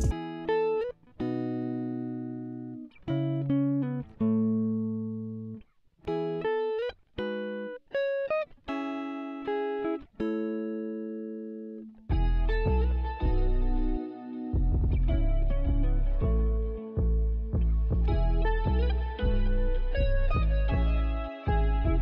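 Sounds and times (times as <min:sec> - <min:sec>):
guitar chords ringing: 0:00.0 - 0:22.0.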